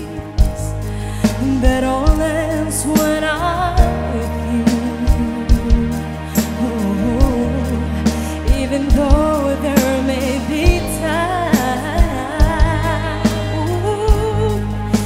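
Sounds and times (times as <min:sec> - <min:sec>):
band accompaniment: 0:00.0 - 0:15.0
woman singing a ballad: 0:00.0 - 0:15.0.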